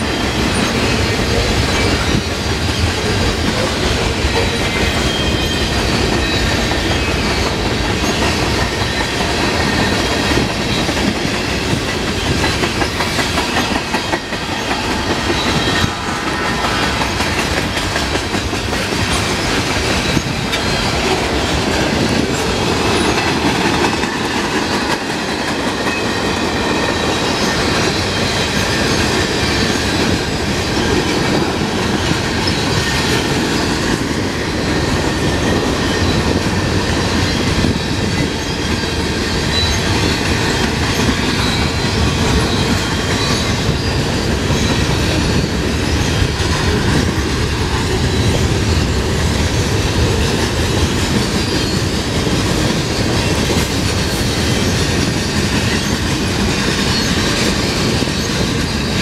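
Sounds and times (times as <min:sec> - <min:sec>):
steel wheels clattering over rail joints: 0:00.0 - 0:59.0
train cars rumbling past: 0:00.0 - 0:59.0.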